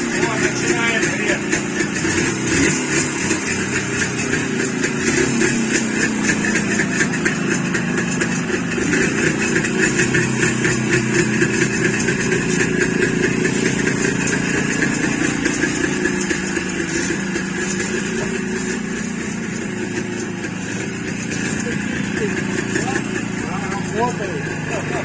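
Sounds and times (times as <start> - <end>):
two-stroke motorcycle engine idling: 0.0 - 25.0.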